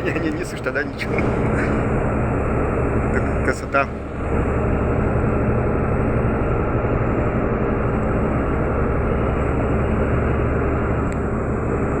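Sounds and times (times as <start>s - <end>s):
boat diesel engines: 0.0s - 12.0s.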